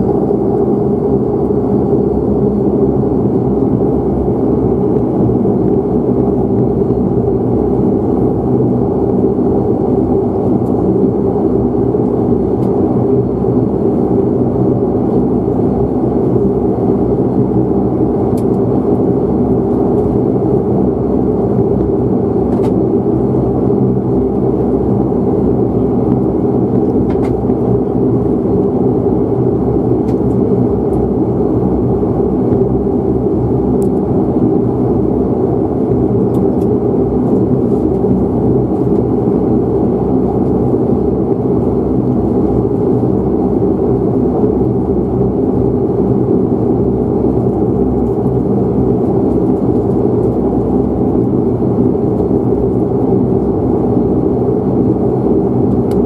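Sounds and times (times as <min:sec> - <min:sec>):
turboprop engine idling hum: 0:00.0 - 0:56.0.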